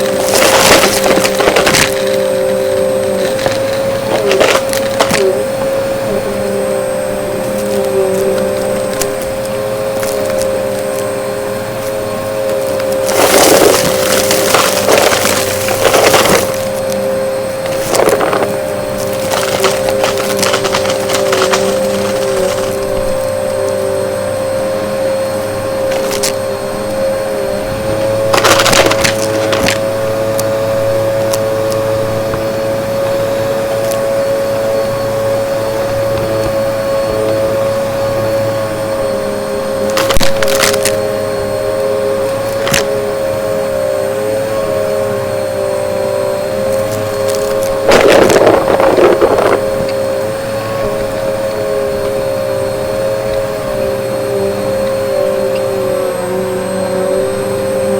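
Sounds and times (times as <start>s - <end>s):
debris crackling in vacuum: 0.0s - 57.9s
vacuum cleaner motor whine: 0.0s - 57.9s.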